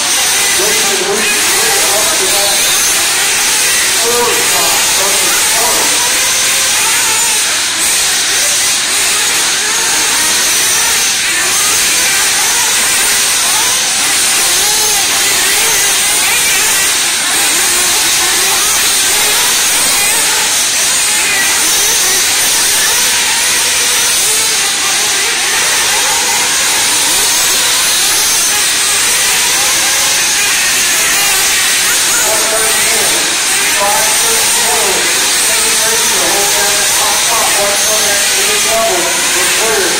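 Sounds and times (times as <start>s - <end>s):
rc car motors whining: 0.0s - 39.9s.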